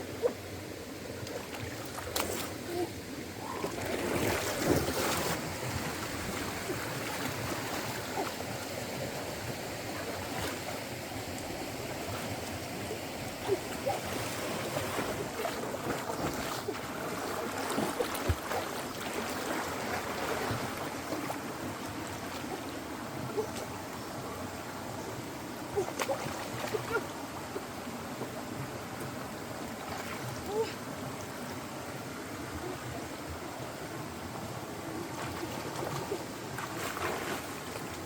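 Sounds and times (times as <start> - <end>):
stream flowing: 0.0 - 38.0.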